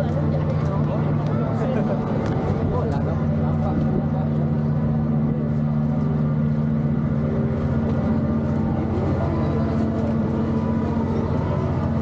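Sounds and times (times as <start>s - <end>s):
ship machinery droning: 0.0s - 12.0s.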